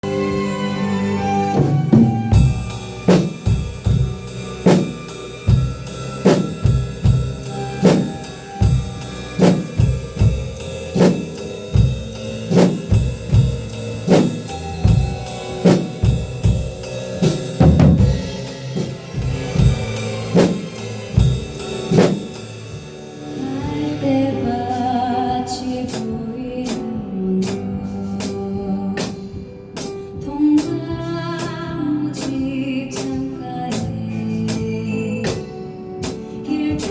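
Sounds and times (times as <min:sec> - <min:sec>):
backing track music: 0:00.0 - 0:36.9
drum kit playing: 0:00.0 - 0:36.9.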